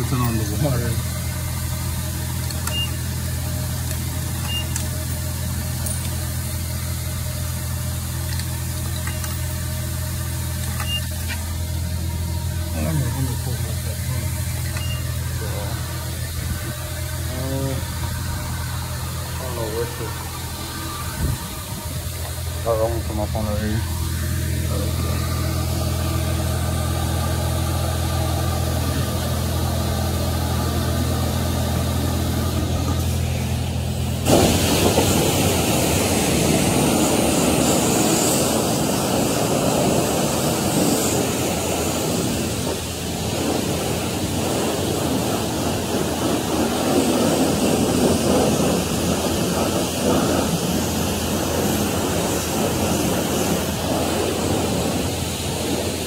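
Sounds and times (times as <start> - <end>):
high-pressure water spray hissing: 0.0 - 56.0
steady machine hum: 0.0 - 56.0.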